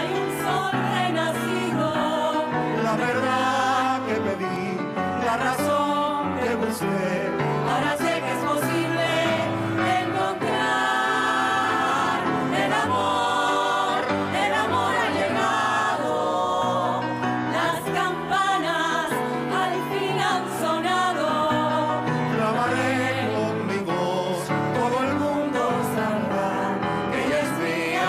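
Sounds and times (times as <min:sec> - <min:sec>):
piano accompaniment: 0:00.0 - 0:28.0
vocal quartet singing in harmony: 0:00.0 - 0:28.0.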